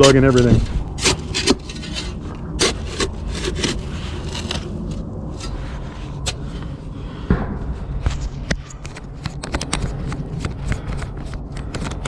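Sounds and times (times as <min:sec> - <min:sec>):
scrapes and knocks: 0:00.0 - 0:12.0
wind rumbling on microphone: 0:00.0 - 0:12.0.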